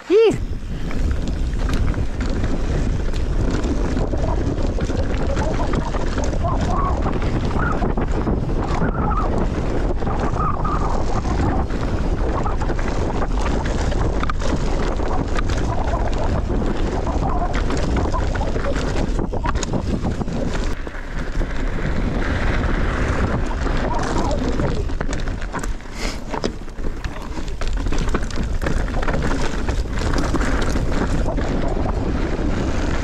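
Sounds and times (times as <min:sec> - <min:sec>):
bike rattling over dirt trail: 0:00.1 - 0:33.0
wind buffeting microphone: 0:00.1 - 0:33.0.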